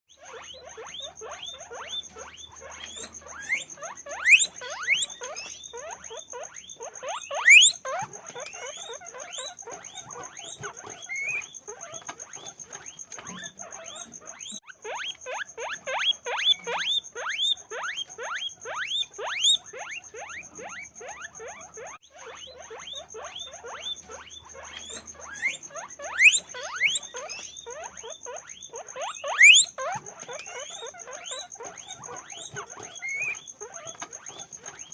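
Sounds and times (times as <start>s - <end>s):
guinea pigs squeaking: 0.1s - 34.9s.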